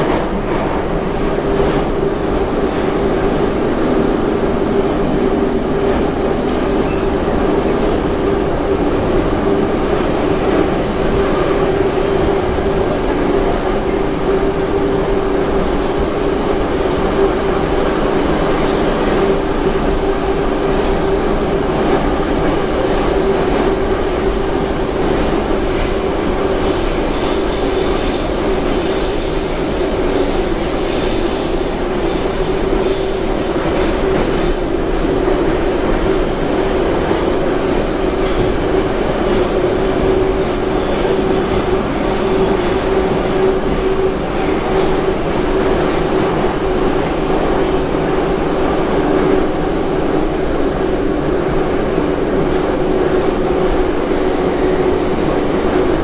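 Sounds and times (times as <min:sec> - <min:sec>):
train rumbling inside carriage: 0:00.0 - 0:56.0.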